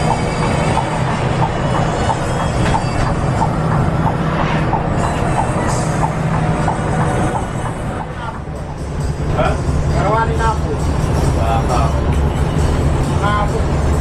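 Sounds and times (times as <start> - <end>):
coach engine and road drone: 0.0 - 14.0.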